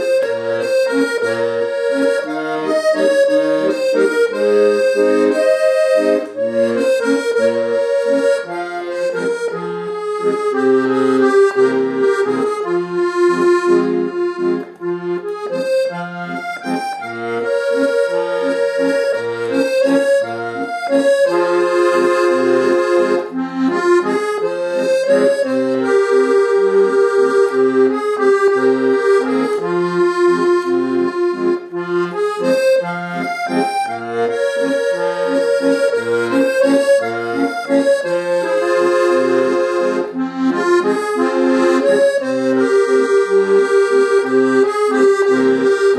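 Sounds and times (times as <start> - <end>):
accordion melody with oom-pah bass: 0.0 - 45.9.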